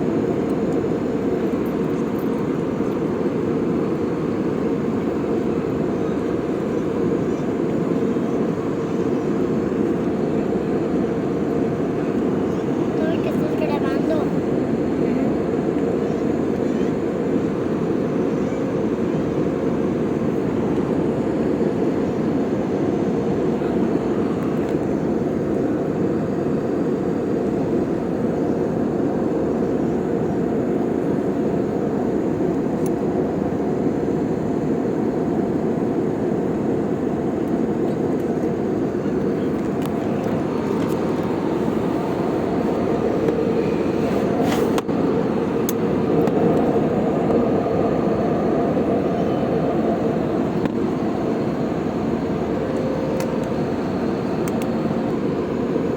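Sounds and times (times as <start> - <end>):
airliner cabin engine roar: 0.0 - 55.9.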